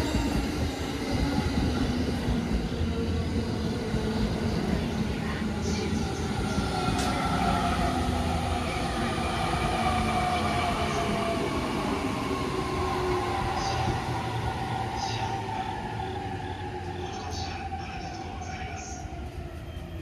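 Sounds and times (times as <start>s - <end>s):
train wheels humming on rails: 0.0s - 20.0s.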